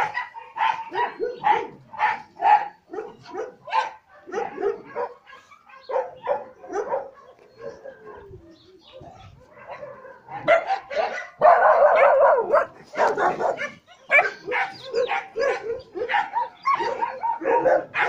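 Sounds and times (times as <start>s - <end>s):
dog barking: 0.0s - 8.3s, 9.1s - 18.0s.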